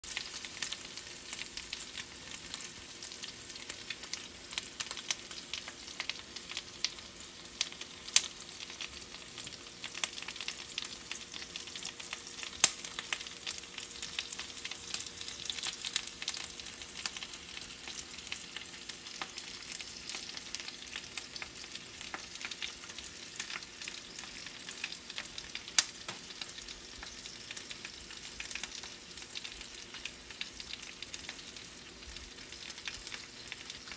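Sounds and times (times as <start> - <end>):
chicken sizzling in pan: 0.0 - 33.9
faint steady hum: 0.0 - 33.9.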